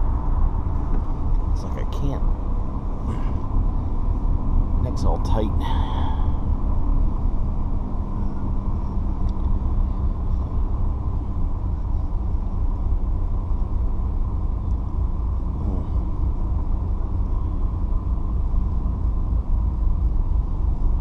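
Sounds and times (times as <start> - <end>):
car driving low rumble: 0.0 - 21.0.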